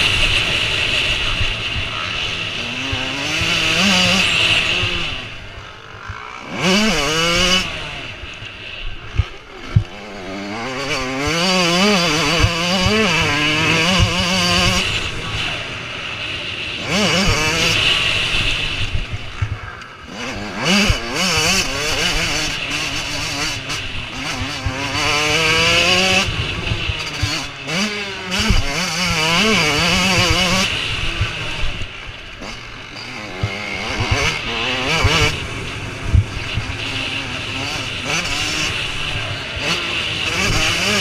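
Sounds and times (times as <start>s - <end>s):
motocross motorcycles revving: 0.0s - 41.0s.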